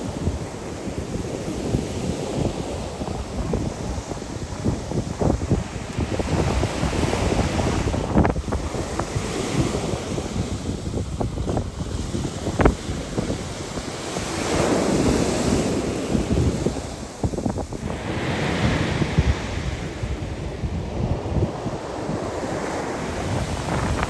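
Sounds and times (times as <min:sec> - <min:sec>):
surf washing onto shore: 0:00.0 - 0:24.0
wind buffeting microphone: 0:00.0 - 0:24.0.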